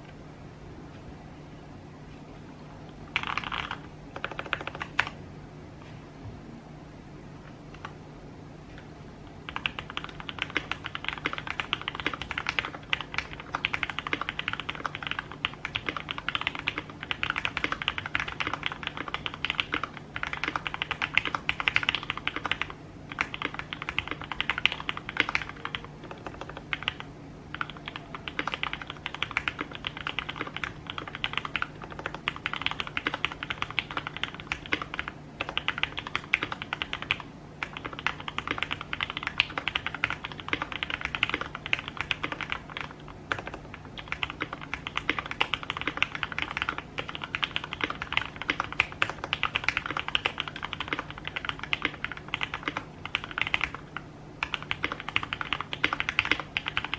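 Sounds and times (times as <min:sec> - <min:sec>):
fast typing on mechanical keyboard: 0:03.1 - 0:05.2, 0:09.4 - 0:56.9.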